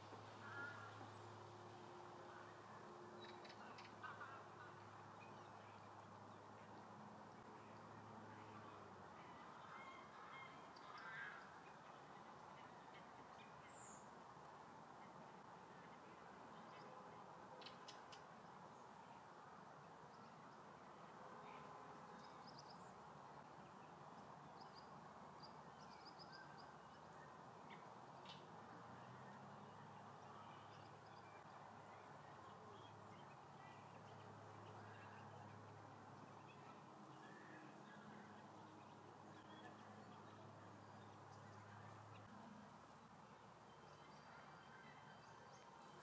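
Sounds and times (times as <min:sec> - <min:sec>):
faint outdoor hum: 0:00.0 - 0:46.0.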